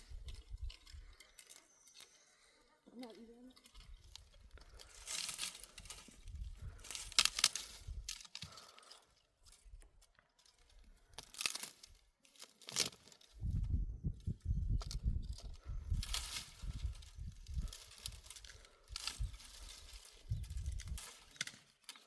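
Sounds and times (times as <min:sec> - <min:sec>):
dry plants tearing and crunching: 0:00.0 - 0:02.3, 0:02.9 - 0:22.0.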